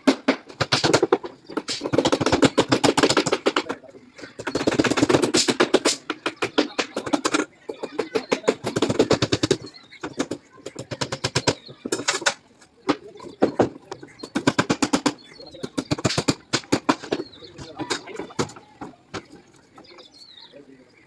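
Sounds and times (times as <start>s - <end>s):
rapid clattering knocks: 0.0s - 20.1s
people's voices: 0.0s - 21.0s.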